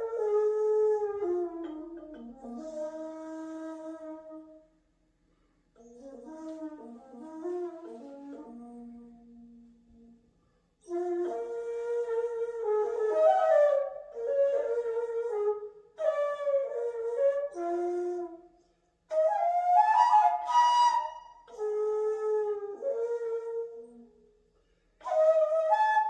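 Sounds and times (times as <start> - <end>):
bamboo flute melody: 0.0 - 4.8, 5.8 - 24.4, 25.0 - 26.0.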